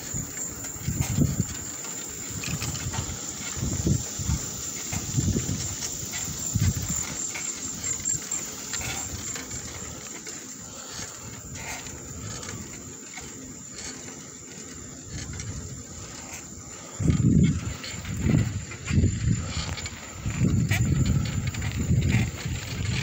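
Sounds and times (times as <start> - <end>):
insects trilling: 0.0 - 23.0
low uneven rumble: 0.6 - 23.0.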